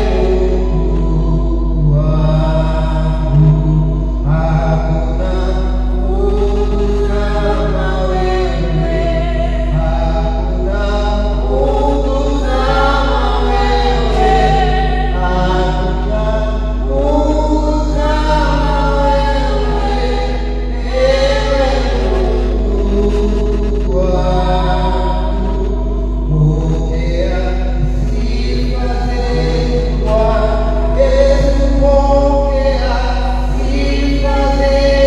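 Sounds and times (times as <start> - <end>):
choir singing a hymn: 0.0 - 35.0
low electrical hum: 0.0 - 35.0.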